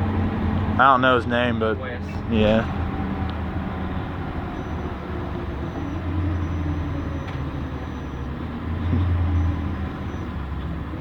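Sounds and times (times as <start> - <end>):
bus engine and road drone: 0.0 - 11.0.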